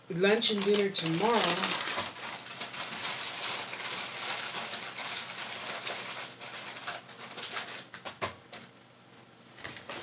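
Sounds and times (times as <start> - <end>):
paper bag rustling and crinkling: 0.3 - 8.3.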